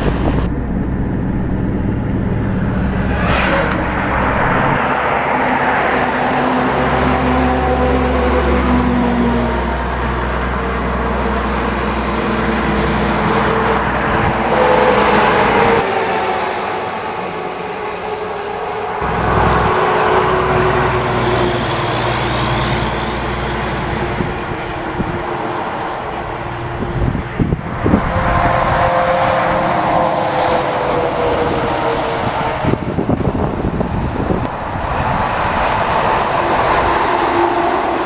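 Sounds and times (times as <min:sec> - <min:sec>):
heavy trucks driving by: 0:00.0 - 0:38.0.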